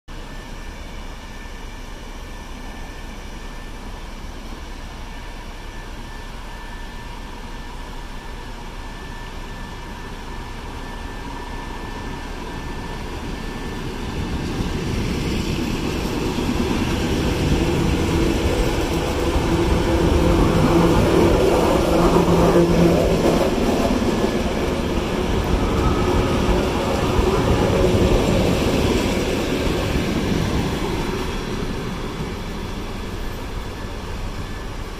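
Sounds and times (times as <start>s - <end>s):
train wheels rumbling on rail: 0.1s - 34.9s
humming tone: 0.2s - 34.9s.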